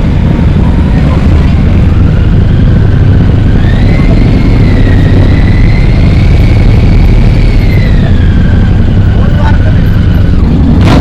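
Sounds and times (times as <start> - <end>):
motorcycle engine rumble: 0.0 - 11.0
thin engine whine: 0.0 - 11.0.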